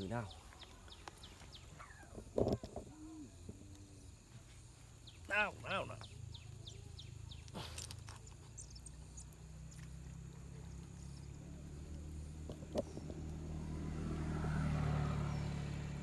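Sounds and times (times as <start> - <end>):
faint bird chirps: 0.0 - 13.9
low motor hum: 0.0 - 16.0.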